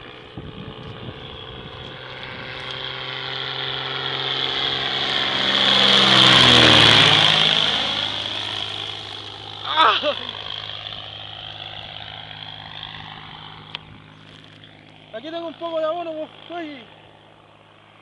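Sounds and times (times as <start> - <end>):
propeller plane flying overhead: 0.0 - 18.0.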